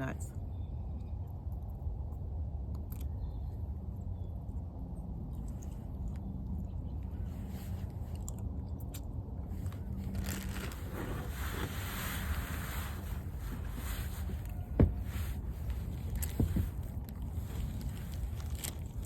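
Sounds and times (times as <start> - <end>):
wind rumbling on microphone: 0.3 - 19.0.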